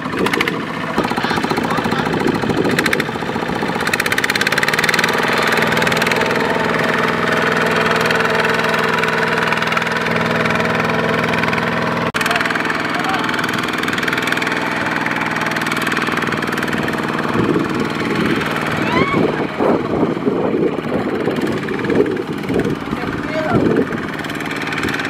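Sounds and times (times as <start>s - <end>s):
diesel engine knocking putter: 0.0s - 25.0s.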